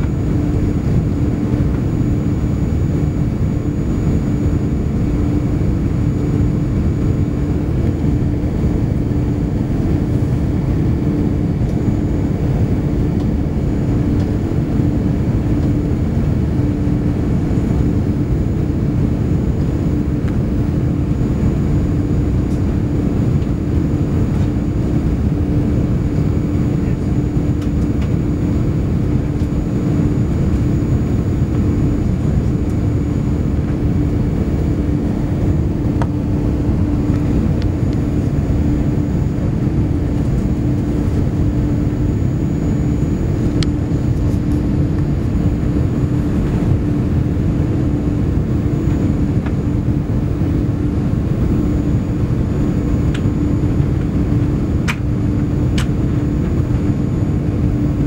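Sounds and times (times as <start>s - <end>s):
airplane cabin engine noise: 0.0s - 58.0s
steady hum: 0.0s - 58.0s.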